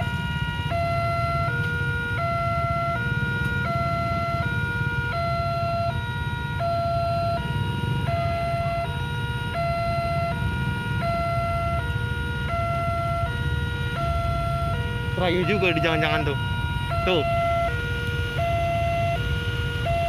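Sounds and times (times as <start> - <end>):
two-tone warning siren: 0.0 - 20.0
vehicle engines idling: 0.0 - 20.0.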